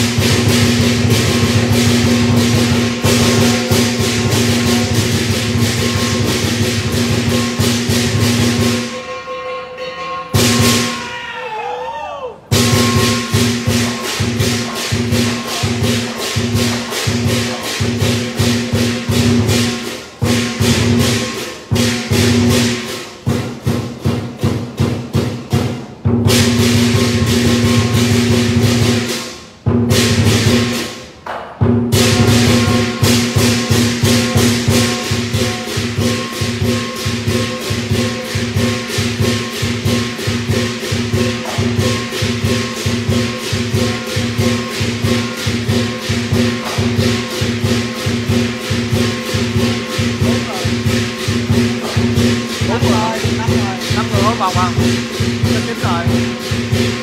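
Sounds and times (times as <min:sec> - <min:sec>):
large drum beaten fast: 0:00.0 - 0:09.0, 0:10.3 - 0:11.1, 0:12.5 - 0:31.0, 0:31.6 - 0:57.0
clashing cymbals: 0:00.0 - 0:11.3, 0:12.5 - 0:57.0
ringing gong: 0:00.1 - 0:11.1, 0:12.5 - 0:23.0, 0:32.0 - 0:57.0.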